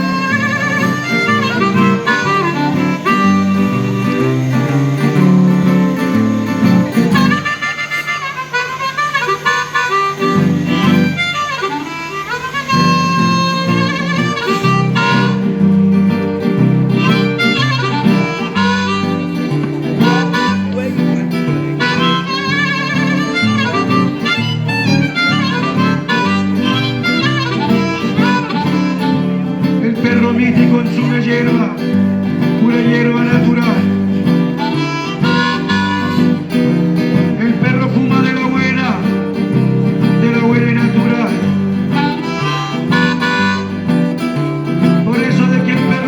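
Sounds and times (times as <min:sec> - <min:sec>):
blues harmonica: 0:00.0 - 0:46.0
strummed acoustic guitar: 0:00.0 - 0:46.0.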